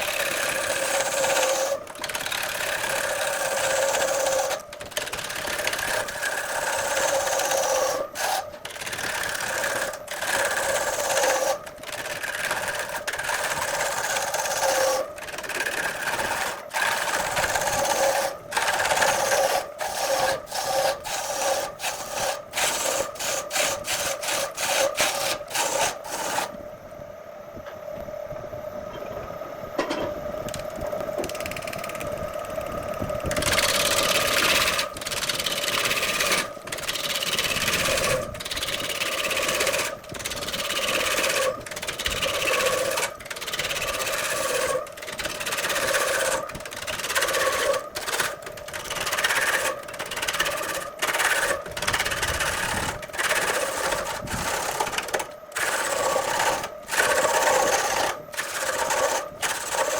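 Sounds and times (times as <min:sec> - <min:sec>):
tool scraping wood: 0:00.0 - 0:26.6, 0:33.3 - 0:59.9
steady hum: 0:00.0 - 0:59.9.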